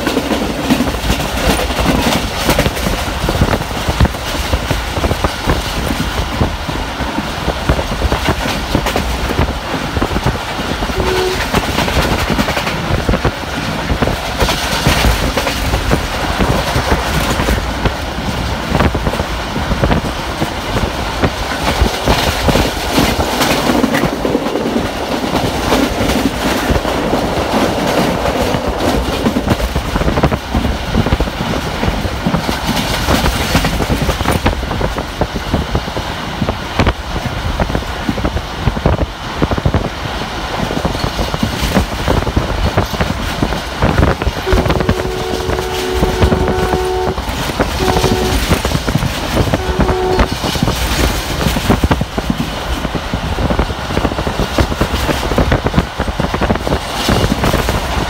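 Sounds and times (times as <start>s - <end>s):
wheels clacking over rail joints: 0.0s - 58.0s
wind and rolling noise: 0.0s - 58.0s.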